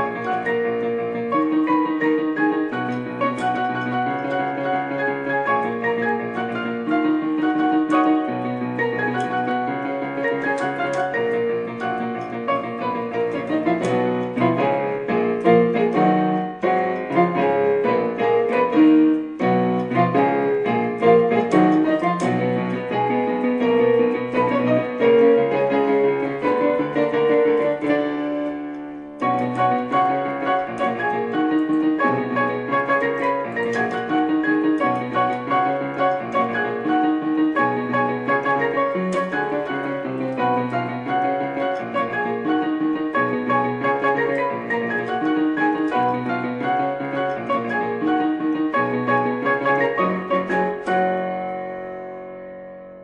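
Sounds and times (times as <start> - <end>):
electric keyboard playing pop tune: 0.0 - 53.0.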